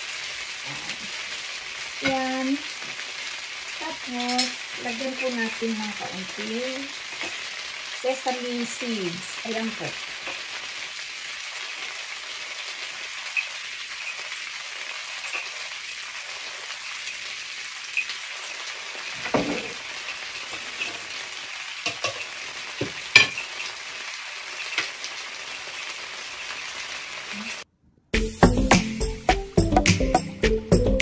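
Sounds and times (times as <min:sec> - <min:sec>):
chicken wings sizzling in a pan: 0:00.0 - 0:27.7.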